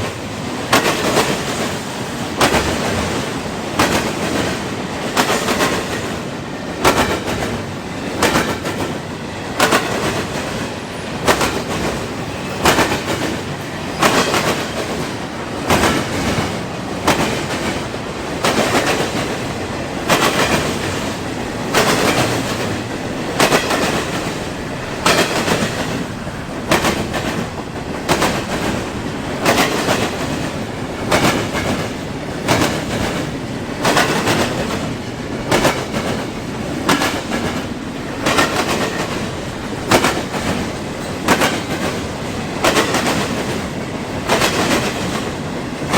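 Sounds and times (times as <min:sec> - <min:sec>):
rumble of train wheels on rails: 0:00.0 - 0:45.9
train wheels clicking over rail joints: 0:00.0 - 0:45.9.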